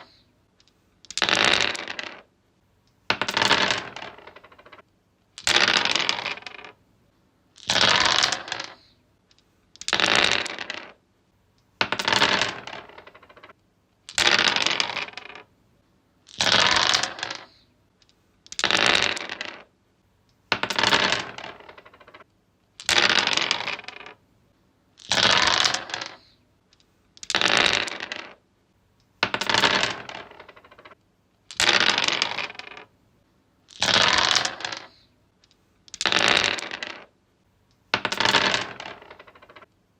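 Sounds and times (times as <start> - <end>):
dice rolling on wood: 0.0 - 2.3, 3.0 - 6.8, 7.6 - 11.0, 11.6 - 15.5, 16.2 - 19.7, 20.4 - 24.2, 25.0 - 28.4, 29.1 - 32.9, 33.7 - 39.8.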